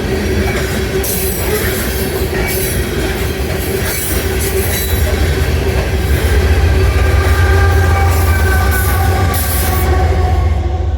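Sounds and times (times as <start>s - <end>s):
train wheels rumbling: 0.0s - 10.9s.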